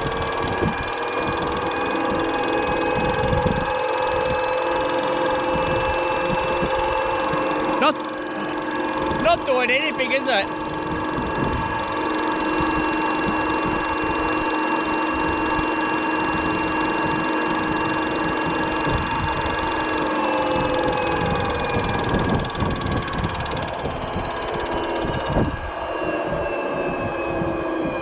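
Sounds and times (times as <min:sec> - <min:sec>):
washing machine whine and rumble: 0:00.0 - 0:28.0.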